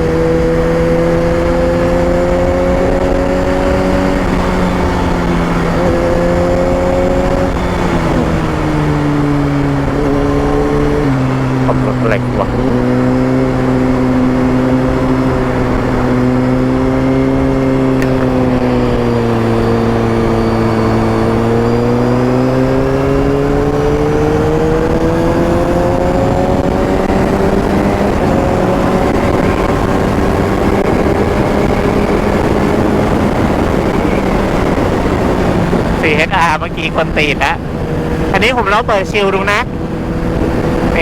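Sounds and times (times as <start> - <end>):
motorcycle engine accelerating: 0.0 - 41.0
wind rush on microphone: 0.0 - 41.0.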